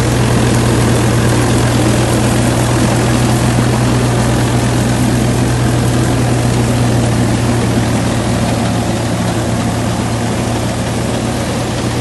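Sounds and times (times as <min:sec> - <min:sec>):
straw reaper rushing noise: 0:00.0 - 0:12.0
tractor diesel engine running: 0:00.0 - 0:12.0.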